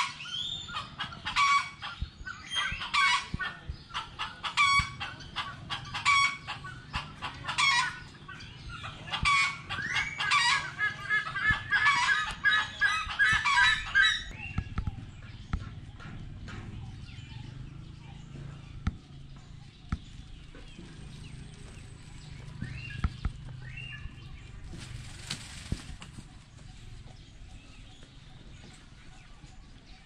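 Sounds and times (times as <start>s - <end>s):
birds calling: 0.0s - 30.0s
chorus of bird calls: 0.0s - 30.0s.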